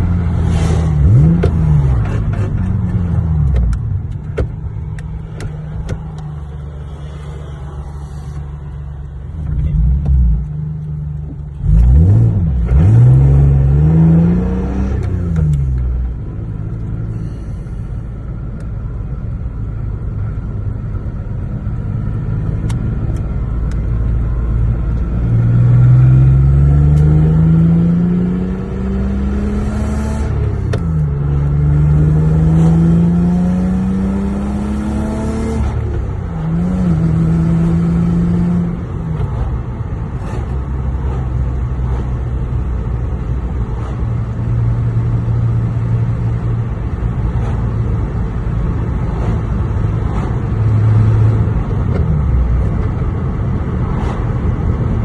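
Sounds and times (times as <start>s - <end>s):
car engine accelerating: 0.0s - 17.8s, 20.8s - 55.0s.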